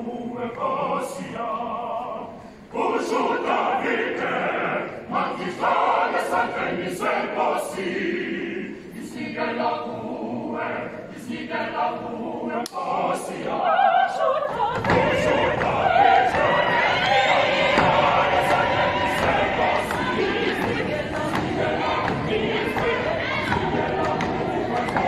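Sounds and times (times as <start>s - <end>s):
mixed choir singing: 0.0s - 25.0s.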